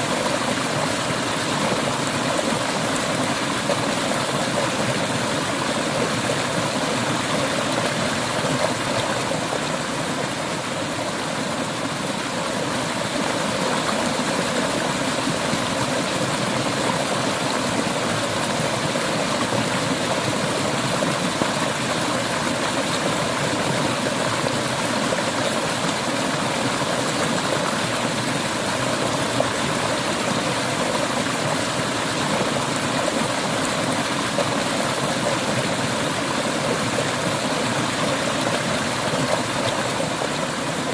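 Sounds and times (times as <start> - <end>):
river water rushing over stones: 0.0 - 40.9.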